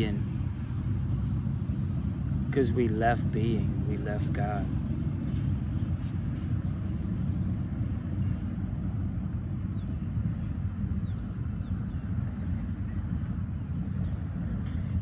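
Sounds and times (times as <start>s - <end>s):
steady low outdoor rumble: 0.0s - 15.0s.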